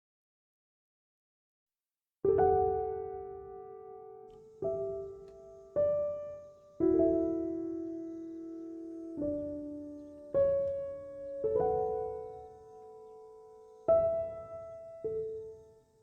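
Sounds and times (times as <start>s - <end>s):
slow solo piano music: 2.3s - 16.0s.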